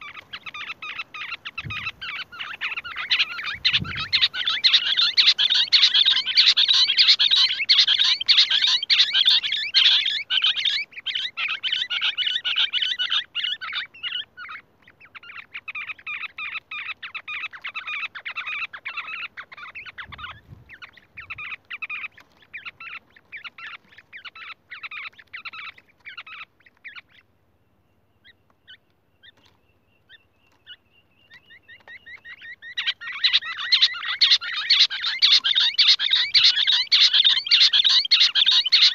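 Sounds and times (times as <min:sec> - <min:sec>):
rapid chattering bird calls: 0:00.0 - 0:38.9.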